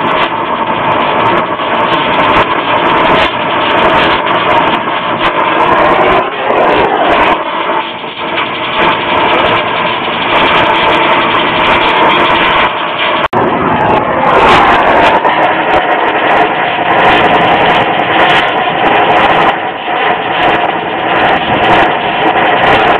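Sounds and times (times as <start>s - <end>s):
falling drone: 0.0s - 22.9s
machine drone: 0.0s - 22.9s
torch flame rushing: 0.0s - 22.9s.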